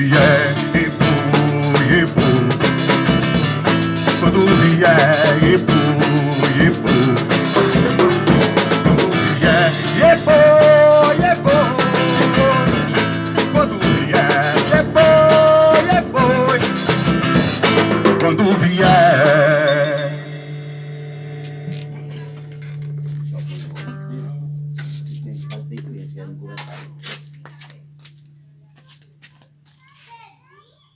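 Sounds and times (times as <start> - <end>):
drum kit playing: 0.0 - 28.5
acoustic guitar: 0.0 - 29.3.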